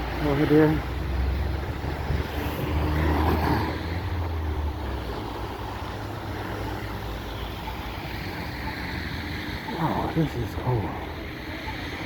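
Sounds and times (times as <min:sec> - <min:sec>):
vehicle engine rumble passing: 0:00.0 - 0:10.2.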